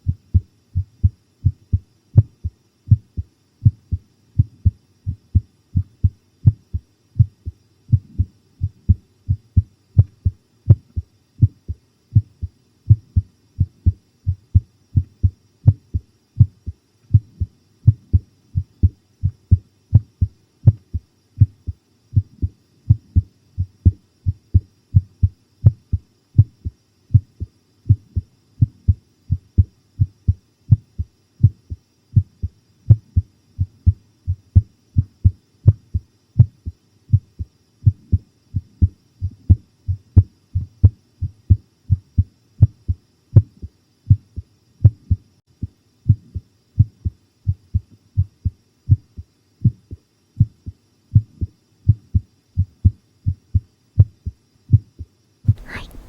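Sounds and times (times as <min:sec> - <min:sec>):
heartbeat thumps: 0:00.0 - 0:56.0.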